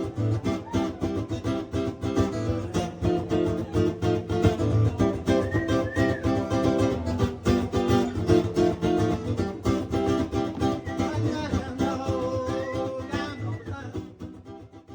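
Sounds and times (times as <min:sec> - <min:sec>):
strummed guitar: 0:00.0 - 0:14.9.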